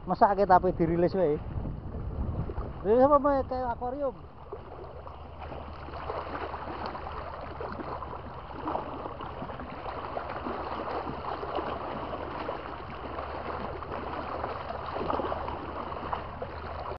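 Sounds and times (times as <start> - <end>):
low hum: 0.0 - 16.9
waves lapping against a boat: 0.0 - 16.9.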